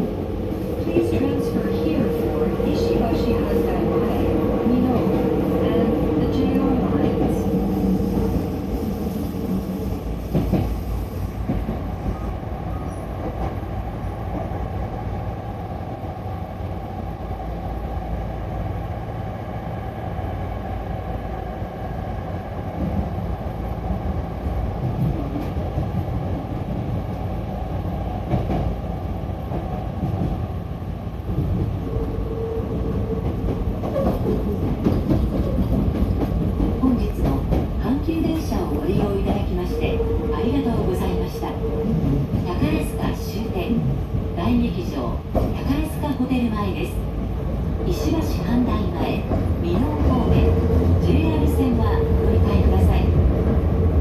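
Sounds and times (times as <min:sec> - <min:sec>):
train wheels rumbling on rails: 0:00.0 - 0:54.0
train whine: 0:00.0 - 0:54.0.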